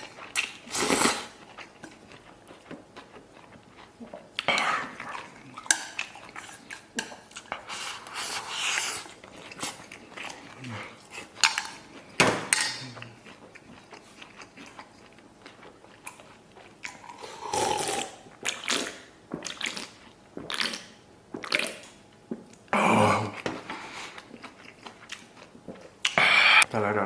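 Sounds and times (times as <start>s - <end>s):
person chewing food: 0.0s - 26.7s.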